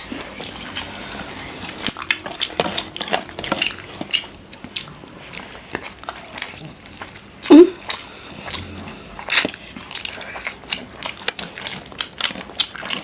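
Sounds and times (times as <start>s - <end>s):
chewing and biting: 0.0s - 13.0s.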